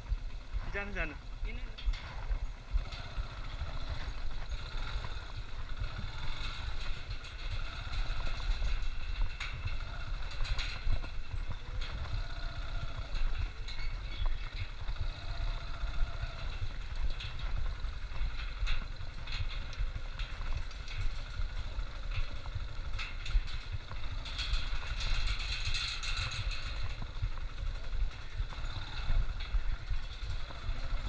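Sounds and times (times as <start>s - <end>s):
motorcycle engine at low revs: 0.0s - 31.0s
metal bridge deck rattling: 0.7s - 31.0s.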